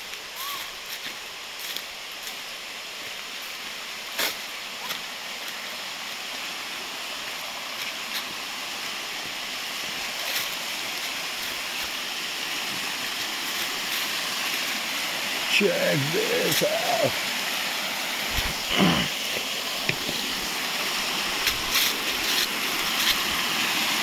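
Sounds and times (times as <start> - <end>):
waterfall and stream rushing: 0.0 - 24.0.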